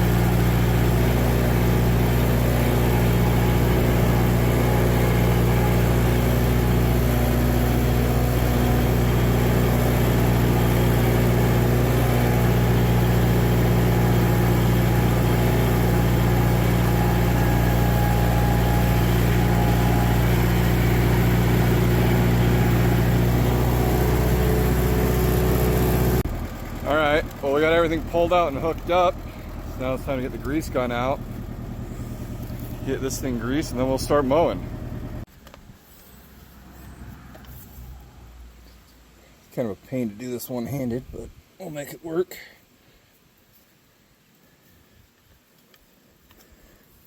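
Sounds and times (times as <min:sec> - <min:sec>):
tractor engine running steadily: 0:00.0 - 0:38.0.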